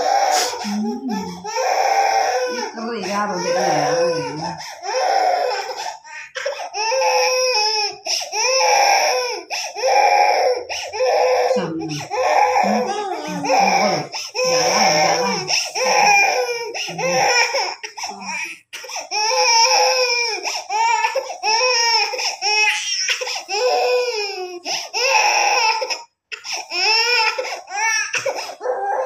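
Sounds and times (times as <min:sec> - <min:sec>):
baby crying: 0:00.0 - 0:29.0.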